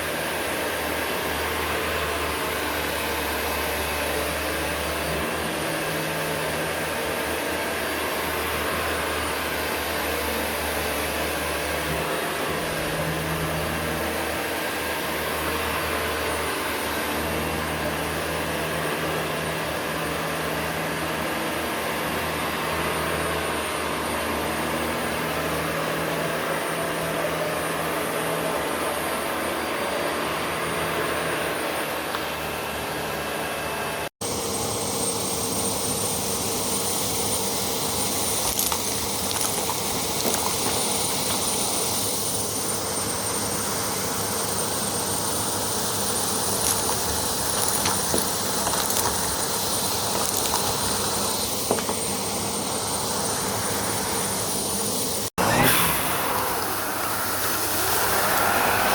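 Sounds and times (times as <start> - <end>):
vacuum cleaner motor whine: 0.0 - 58.9.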